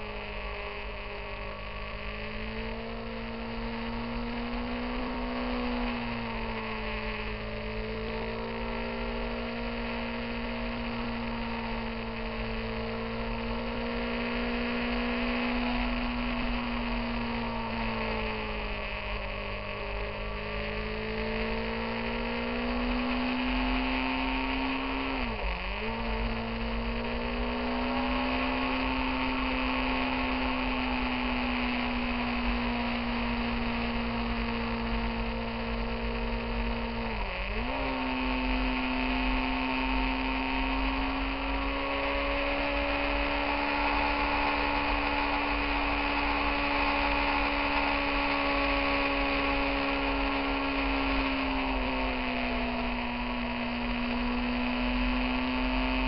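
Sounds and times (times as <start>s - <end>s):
motorcycle engine running: 0.0s - 56.0s
wind: 0.0s - 56.0s.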